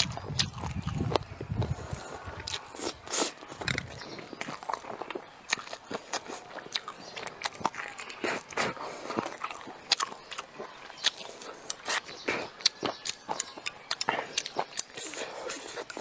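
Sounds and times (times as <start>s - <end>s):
person chewing with mouth clicks: 0.0s - 16.0s.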